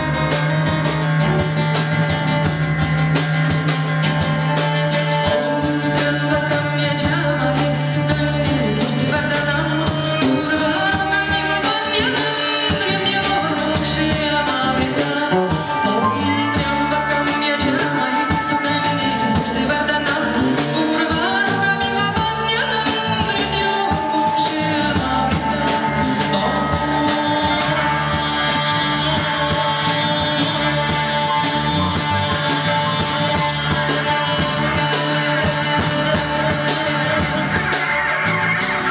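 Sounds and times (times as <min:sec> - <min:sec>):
bass notes: 0:00.0 - 0:38.9
drum kit: 0:00.0 - 0:38.9
electric guitar: 0:00.0 - 0:38.9.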